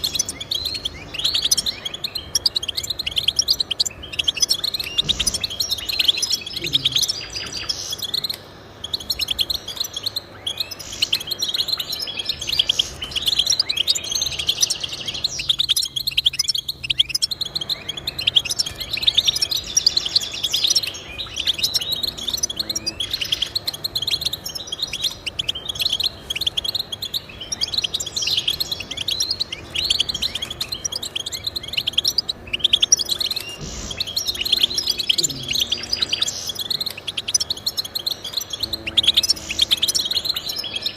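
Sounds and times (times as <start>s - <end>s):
goldfinch twittering song: 0.0s - 40.9s.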